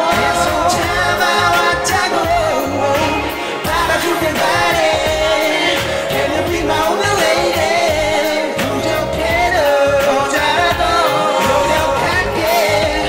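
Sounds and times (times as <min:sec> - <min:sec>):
men singing into microphones: 0:00.0 - 0:13.0
pop backing track with beat: 0:00.0 - 0:13.0.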